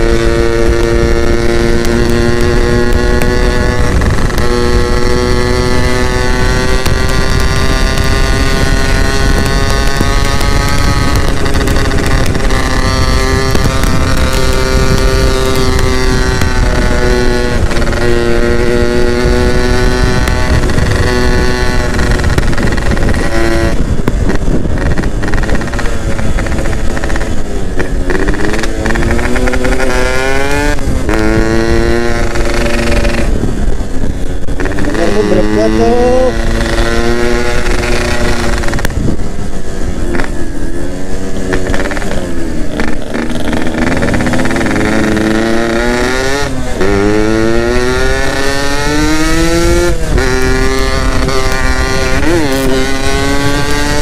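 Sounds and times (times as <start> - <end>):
two-stroke motorcycle engine: 0.0 - 54.0.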